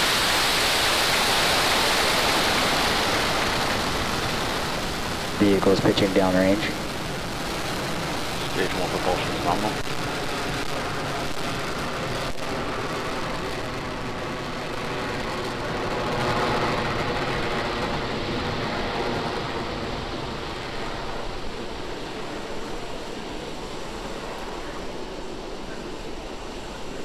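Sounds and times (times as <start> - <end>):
rocket engines rumbling: 0.0 - 27.0.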